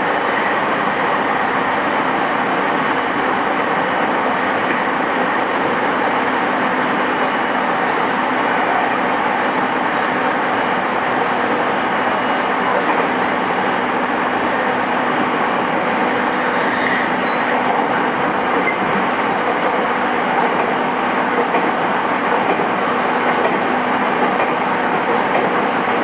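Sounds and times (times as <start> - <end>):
train wheels rolling on rail: 0.0 - 26.0.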